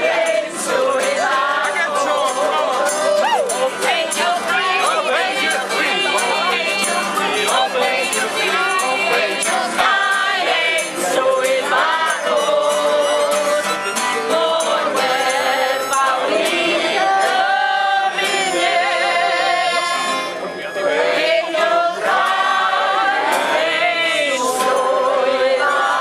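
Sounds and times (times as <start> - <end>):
singing with vibrato: 0.0 - 26.0.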